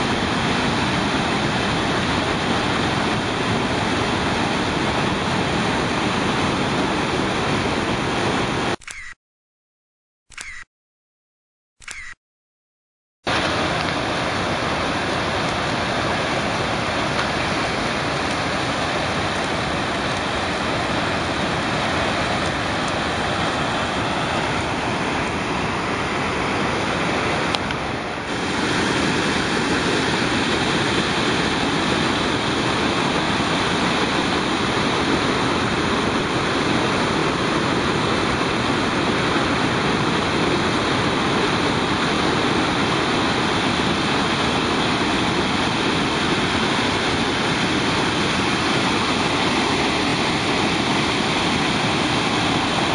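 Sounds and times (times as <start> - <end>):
river roaring over a weir: 0.0 - 8.8, 13.3 - 52.9.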